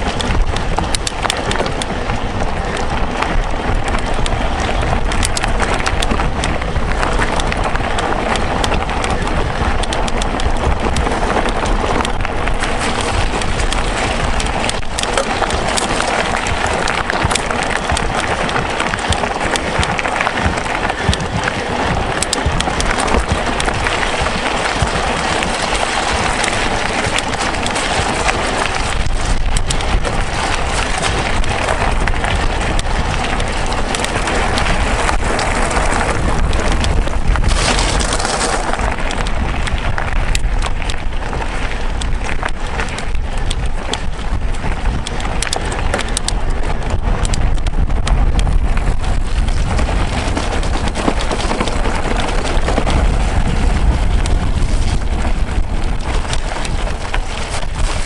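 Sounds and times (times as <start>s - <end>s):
bike rattling clicks: 0.0s - 58.0s
tyres crunching on gravel: 0.0s - 58.0s
wind buffeting microphone: 0.0s - 58.0s.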